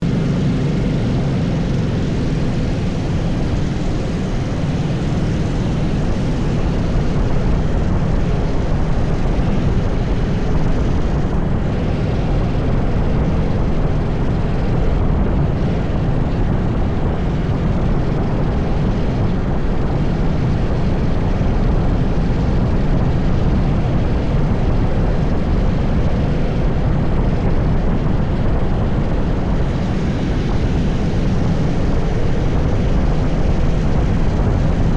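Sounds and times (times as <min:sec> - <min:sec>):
kart engine drone: 0:00.0 - 0:34.9
wind rumble on microphone: 0:00.0 - 0:34.9.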